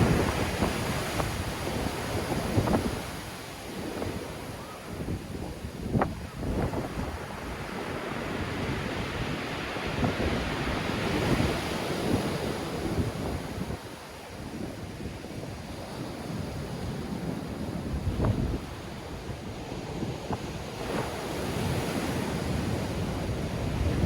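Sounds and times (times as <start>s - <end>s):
sea waves breaking ashore: 0.0s - 24.0s
wind buffeting microphone: 0.0s - 24.0s.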